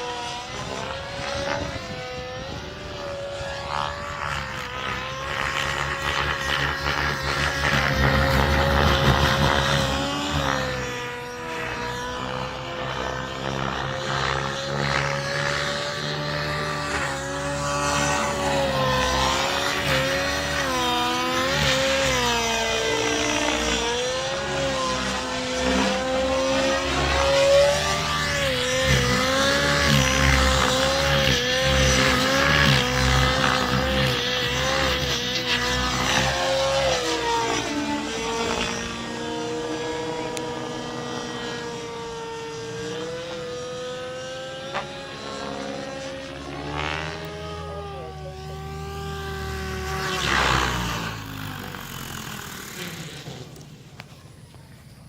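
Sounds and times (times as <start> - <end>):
model helicopter engine whine: 0.0 - 55.0.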